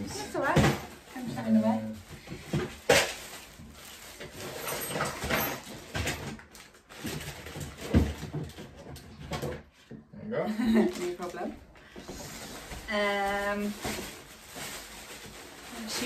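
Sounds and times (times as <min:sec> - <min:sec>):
plastic wrapping crinkling: 0:00.0 - 0:08.8, 0:10.8 - 0:11.5, 0:12.4 - 0:16.0.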